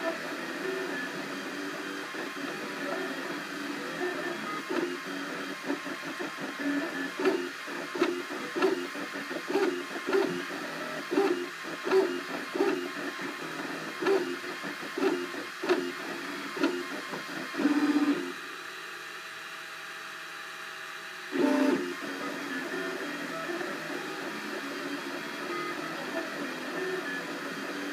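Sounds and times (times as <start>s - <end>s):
printer stepper motors buzzing: 0.0s - 18.6s, 21.3s - 27.9s.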